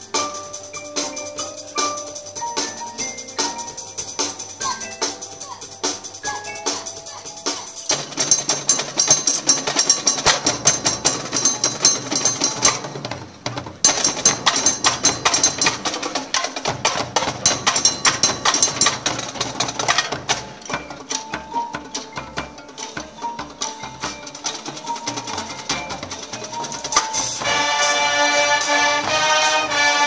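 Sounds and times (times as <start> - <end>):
drumline playing rapid strikes: 0.0 - 30.0.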